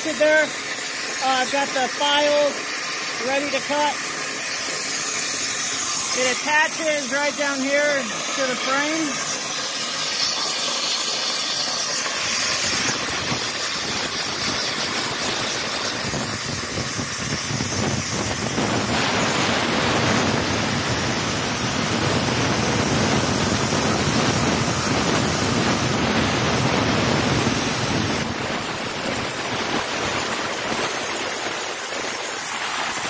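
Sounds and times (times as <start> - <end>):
plasma torch arc hissing: 0.0 - 33.0.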